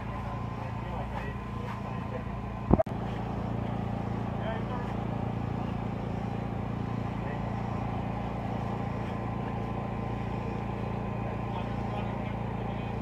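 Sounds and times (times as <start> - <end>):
motor running low drone: 0.0 - 13.0.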